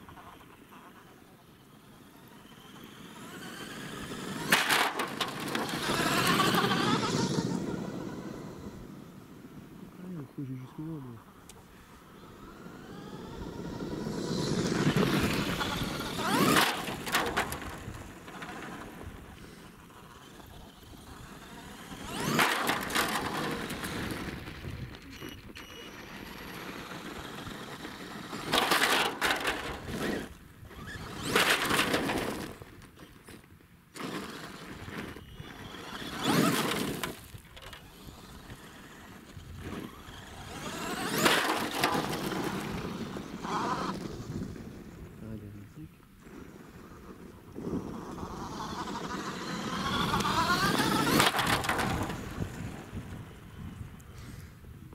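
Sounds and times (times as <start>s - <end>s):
electric motor whine: 0.0s - 9.4s, 11.2s - 32.7s, 34.0s - 44.7s, 46.2s - 54.5s.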